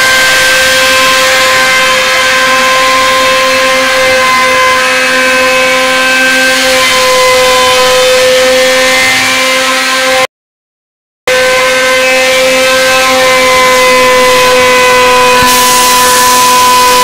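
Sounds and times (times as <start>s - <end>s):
router spindle whine: 0.0s - 10.2s, 11.3s - 17.0s
rushing noise: 0.0s - 10.3s, 11.3s - 17.0s.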